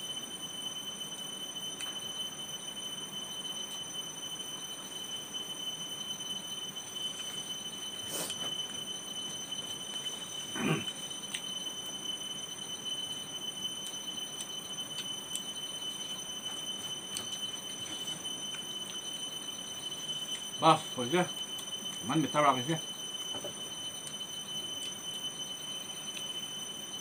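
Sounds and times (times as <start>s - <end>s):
high ringing tones: 0.0s - 27.0s.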